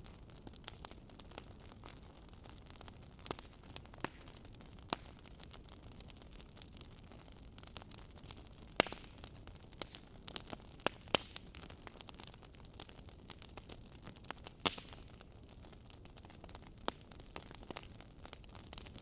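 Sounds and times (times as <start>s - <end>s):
logs crackling in fireplace: 0.0s - 19.0s.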